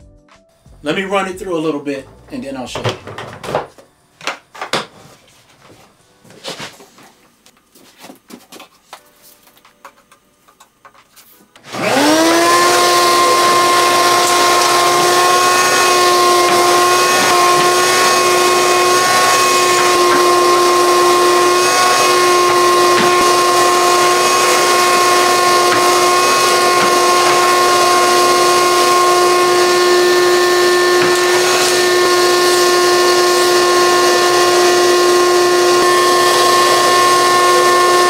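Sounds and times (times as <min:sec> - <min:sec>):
shop vacuum whining: 0:00.6 - 0:09.0, 0:11.2 - 0:38.0.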